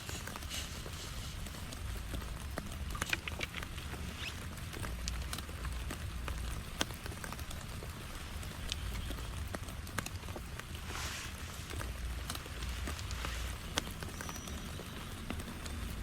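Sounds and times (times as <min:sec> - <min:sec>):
raindrops ticking close by: 0:00.0 - 0:16.0
steady rain falling: 0:00.0 - 0:16.0.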